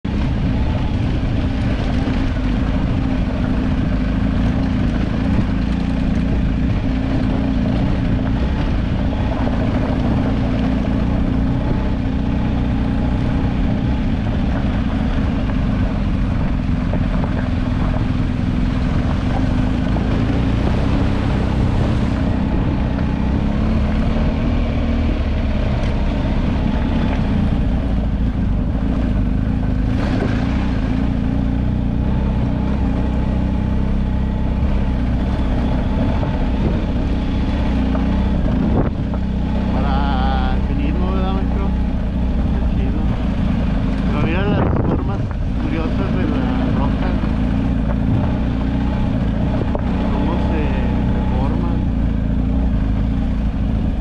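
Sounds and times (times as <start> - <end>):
engine droning: 0.0 - 54.0.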